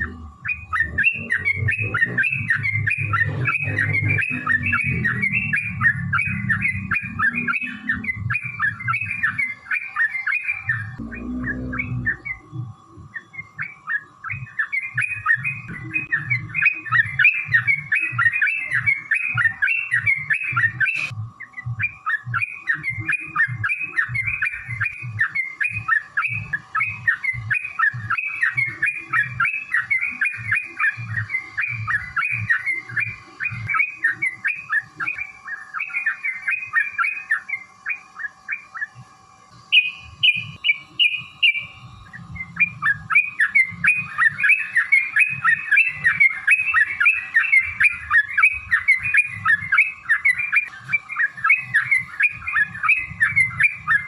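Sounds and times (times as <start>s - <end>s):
bulbul chattering song: 0.0s - 54.0s.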